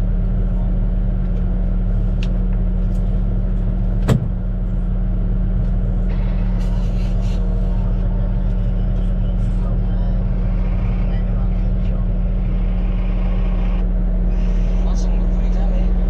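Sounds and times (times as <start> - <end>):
bulldozer diesel engine droning: 0.0 - 16.0.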